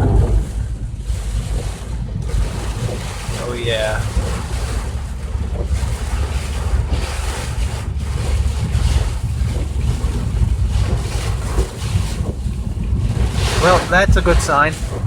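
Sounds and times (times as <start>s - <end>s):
vehicle driving on rough road: 0.0s - 15.0s.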